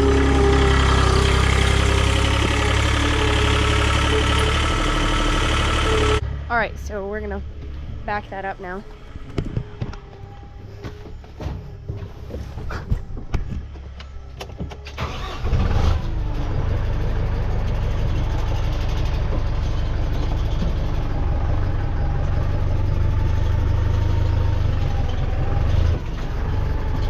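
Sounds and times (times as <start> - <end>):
tractor engine starting and running: 0.0 - 27.0.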